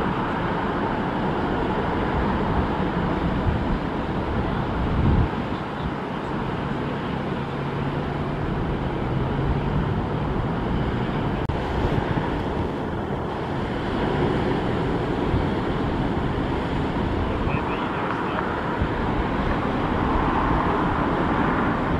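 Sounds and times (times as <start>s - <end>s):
wind on microphone: 0.0s - 7.3s, 8.1s - 21.9s
ocean surf: 0.0s - 21.9s.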